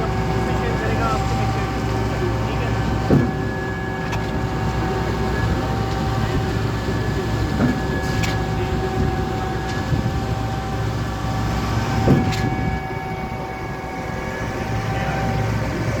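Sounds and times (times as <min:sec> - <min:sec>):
pump truck machine drone: 0:00.0 - 0:16.0
steady machine whine: 0:00.0 - 0:16.0.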